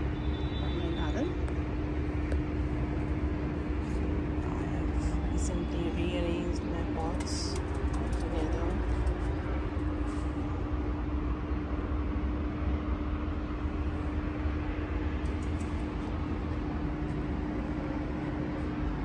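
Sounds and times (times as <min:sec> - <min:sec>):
low mechanical rumble and hum: 0:00.0 - 0:19.0.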